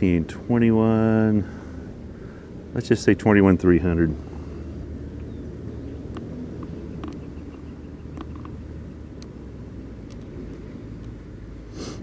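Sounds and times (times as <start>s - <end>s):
low background rumble: 0.0s - 11.8s.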